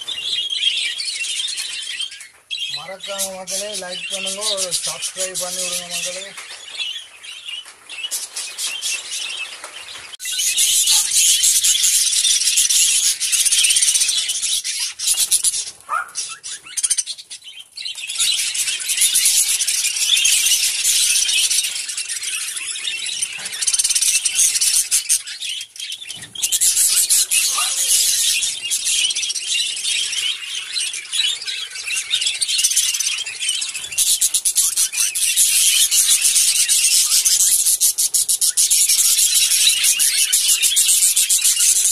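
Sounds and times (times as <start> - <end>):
budgerigars chattering: 0.0 - 6.8, 10.2 - 41.9.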